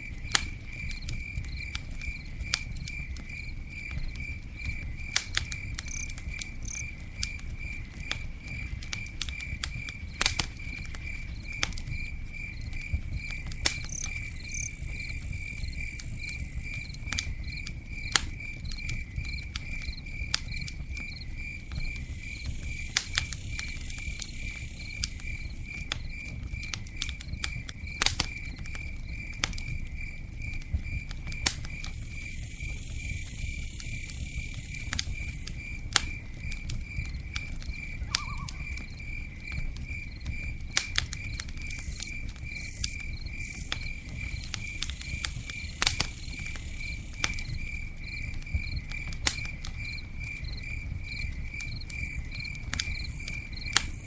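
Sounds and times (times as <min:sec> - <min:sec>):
campfire crackling: 0:00.0 - 0:54.0
cricket chirping: 0:00.0 - 0:54.0.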